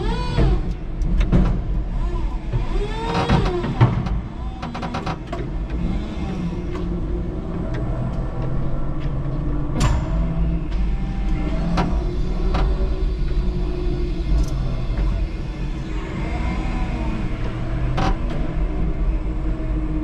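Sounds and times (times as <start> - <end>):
electric forklift driving: 0.0 - 20.0.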